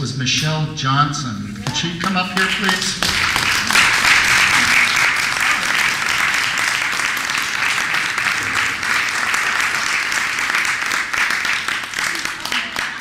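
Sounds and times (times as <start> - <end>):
audience applauding: 1.7 - 13.0.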